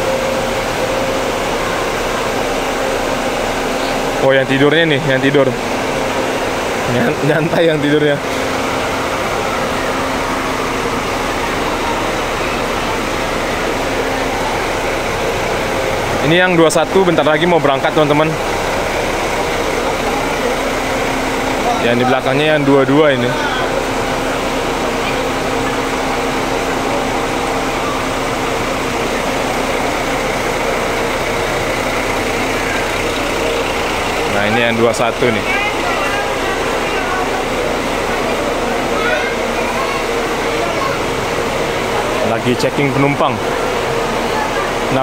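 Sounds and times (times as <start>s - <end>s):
buses idling: 0.0s - 45.0s
heavy rain: 0.0s - 45.0s.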